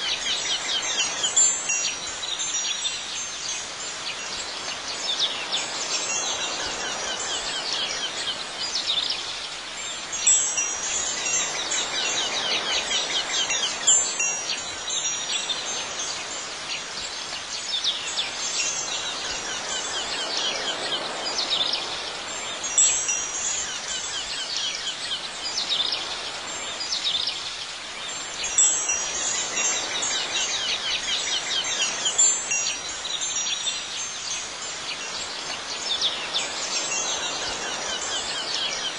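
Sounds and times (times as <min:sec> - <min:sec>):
wind chimes tinkling: 0:00.0 - 0:38.9.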